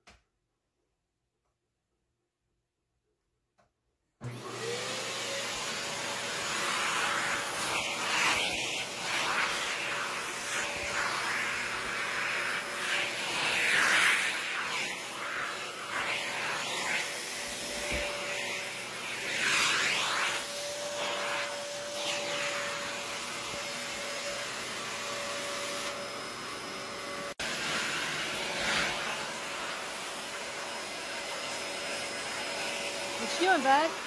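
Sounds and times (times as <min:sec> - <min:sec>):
vacuum cleaner running: 0:04.2 - 0:34.0.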